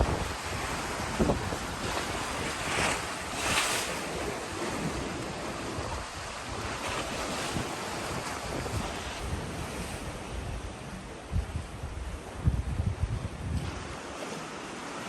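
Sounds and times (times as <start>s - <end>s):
sea waves washing: 0.0s - 12.5s, 13.6s - 15.0s
wind buffeting microphone: 0.0s - 14.2s.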